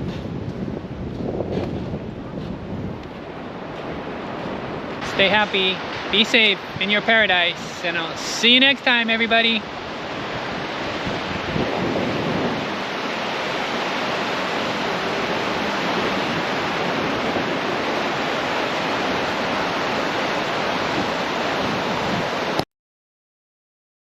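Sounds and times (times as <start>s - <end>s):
ocean surf on a beach: 0.0s - 22.6s.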